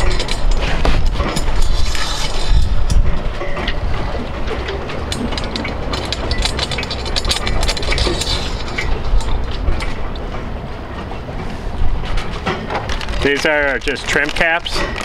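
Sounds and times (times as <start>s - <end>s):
low steady rumble: 0.0s - 15.0s
metal hardware clicking and rattling: 0.0s - 15.0s.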